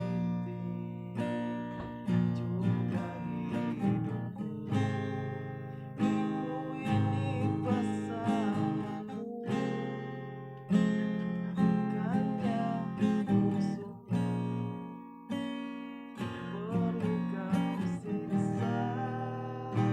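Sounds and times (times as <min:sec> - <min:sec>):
acoustic guitar strummed chords: 0:00.0 - 0:19.9.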